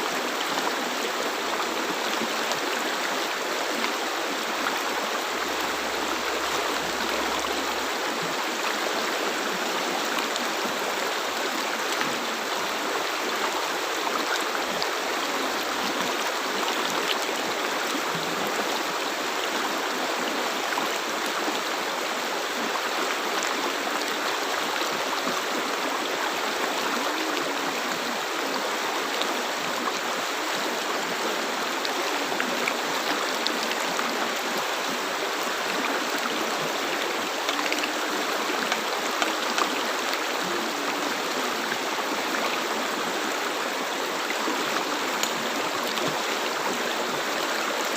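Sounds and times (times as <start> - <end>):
river water flowing over stones: 0.0 - 47.9.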